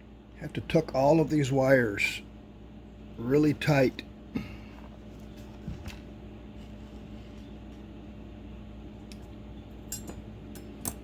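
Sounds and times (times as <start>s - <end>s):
electrical hum and hiss: 0.0s - 11.0s.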